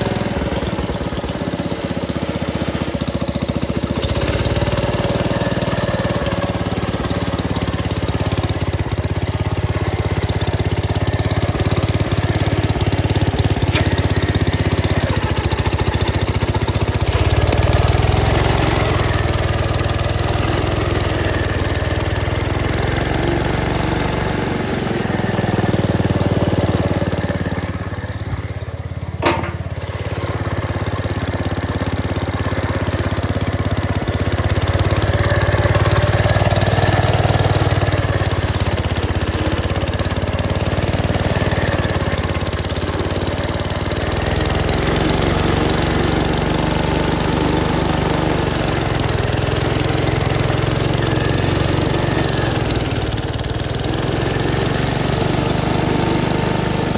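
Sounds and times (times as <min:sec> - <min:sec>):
tractor engine under load: 0:00.0 - 0:56.9.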